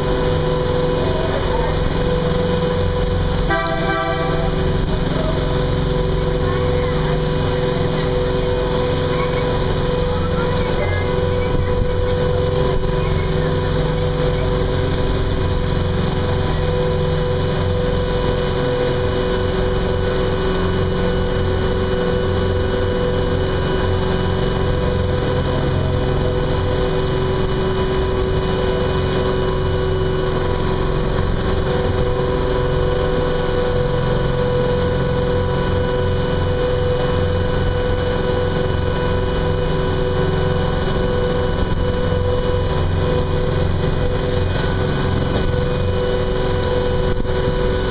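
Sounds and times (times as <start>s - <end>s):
boat engine droning: 0.0s - 47.9s.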